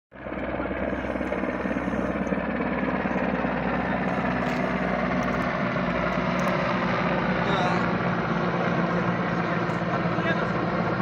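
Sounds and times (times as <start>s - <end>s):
helicopter engine noise: 0.1s - 11.0s
helicopter rotor beating: 0.1s - 11.0s.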